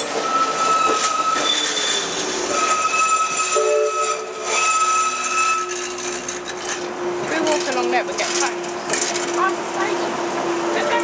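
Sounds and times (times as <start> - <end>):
rumbling rail noise: 0.0 - 11.0
tram high-pitched tones: 0.0 - 11.0.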